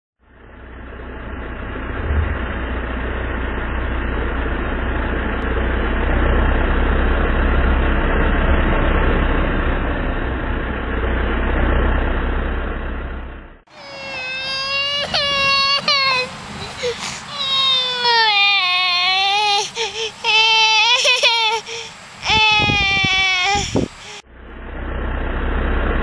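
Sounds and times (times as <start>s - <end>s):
utility vehicle engine running: 0.2s - 26.0s.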